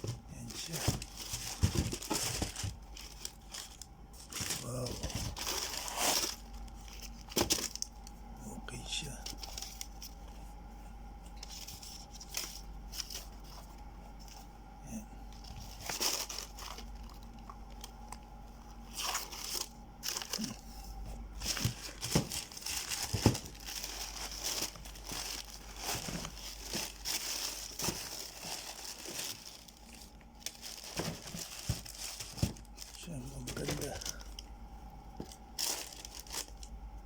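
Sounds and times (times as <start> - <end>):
paper crinkling and rustling: 0.0 - 8.2, 9.0 - 14.5, 15.3 - 34.5, 35.1 - 36.8.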